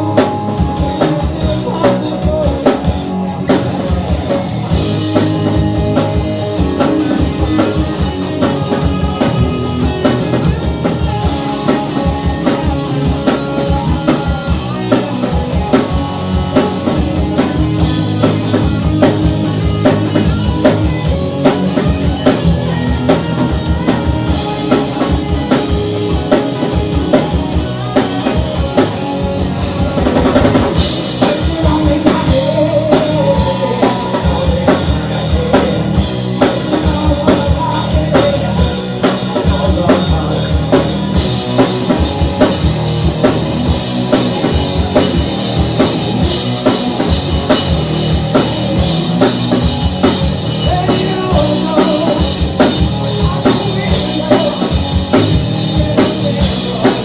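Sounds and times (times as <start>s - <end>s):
drum kit beat: 0.0s - 57.0s
live rock band playing: 0.0s - 57.0s.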